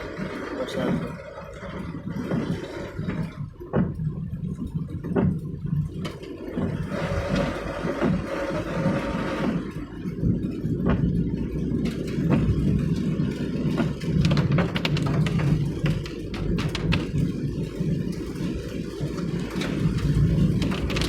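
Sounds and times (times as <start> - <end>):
car driving on wet road: 0.0 - 21.0.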